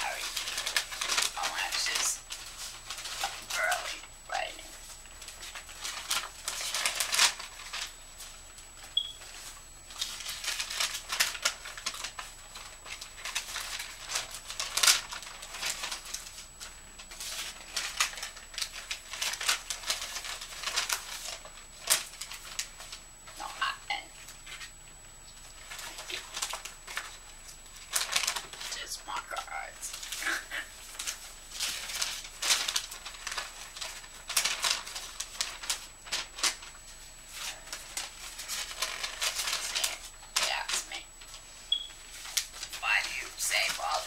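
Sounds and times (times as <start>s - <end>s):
paper rustling: 0.0s - 44.0s.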